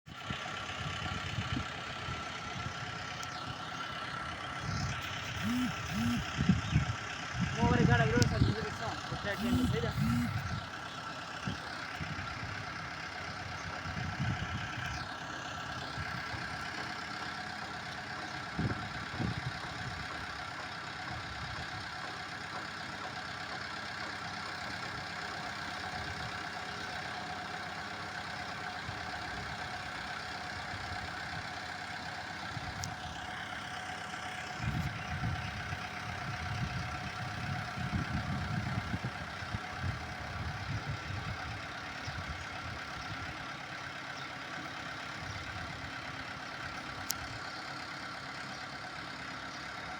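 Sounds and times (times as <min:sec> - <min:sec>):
diesel engine idling: 0:00.1 - 0:49.9
low engine rumbles: 0:00.1 - 0:49.9.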